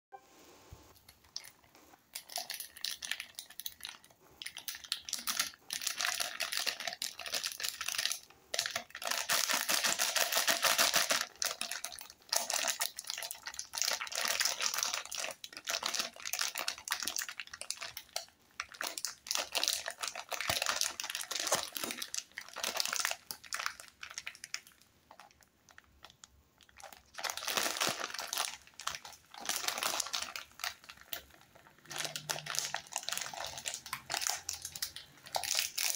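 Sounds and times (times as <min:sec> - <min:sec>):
plastic wrapper crinkling: 0:00.9 - 0:35.9.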